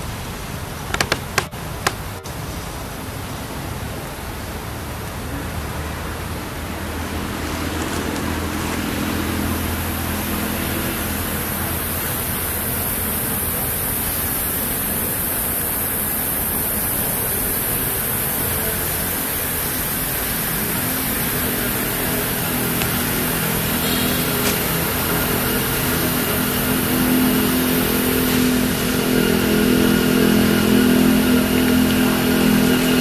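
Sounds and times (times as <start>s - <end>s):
constant high hiss: 0.0s - 33.0s.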